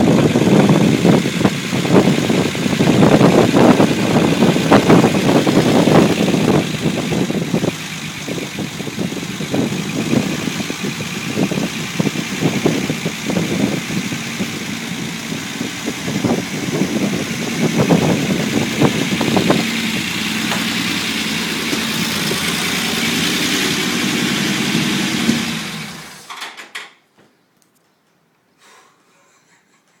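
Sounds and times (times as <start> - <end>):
engine running unevenly: 0.0 - 26.3.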